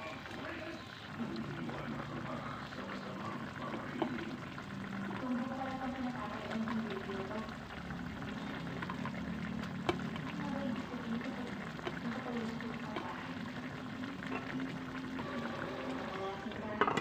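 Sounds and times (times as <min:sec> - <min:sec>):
sauce bubbling in a pan: 0:00.0 - 0:17.0.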